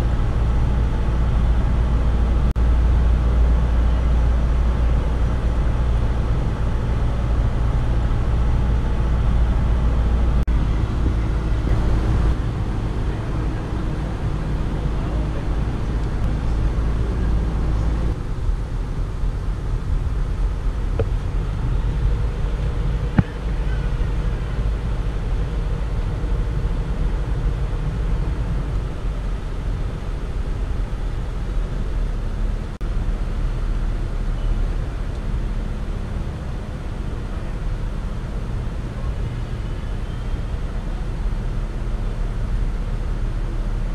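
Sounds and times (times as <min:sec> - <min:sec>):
boat engine drone: 0:00.0 - 0:43.9.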